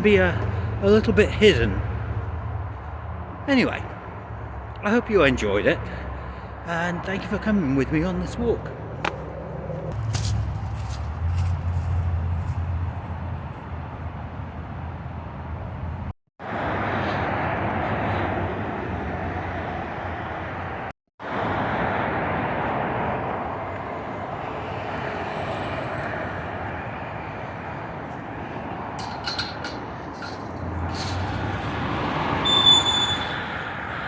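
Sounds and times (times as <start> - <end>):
highway traffic tyre noise: 0.0 - 34.0.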